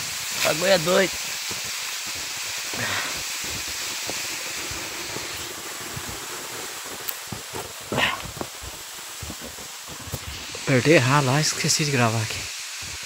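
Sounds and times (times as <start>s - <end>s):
waterfall rushing: 0.0s - 13.0s
footsteps on dirt trail: 0.4s - 11.1s.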